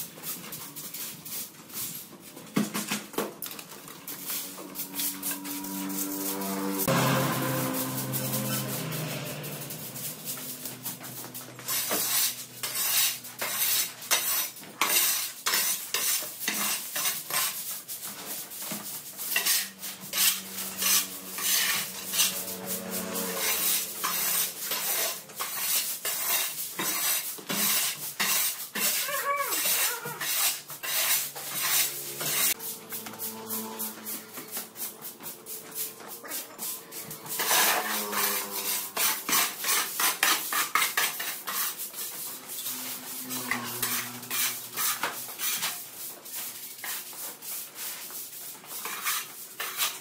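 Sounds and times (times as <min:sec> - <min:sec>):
scraping clattering strokes: 0:00.0 - 0:50.0.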